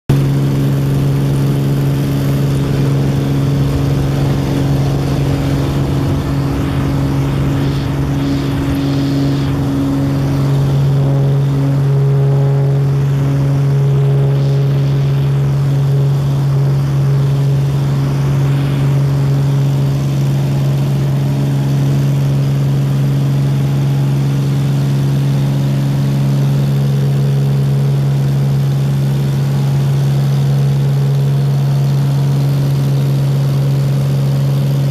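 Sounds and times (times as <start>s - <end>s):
propeller plane engine drone: 0.1s - 34.9s.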